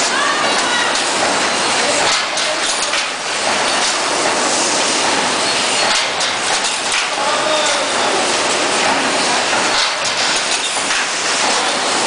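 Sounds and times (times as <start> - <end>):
machine mechanical rattle: 0.4 - 12.0.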